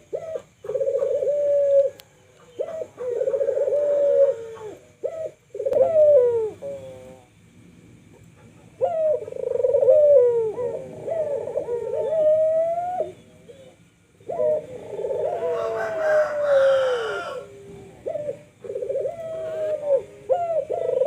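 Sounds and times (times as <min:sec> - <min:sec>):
doves cooing: 0:00.0 - 0:21.0.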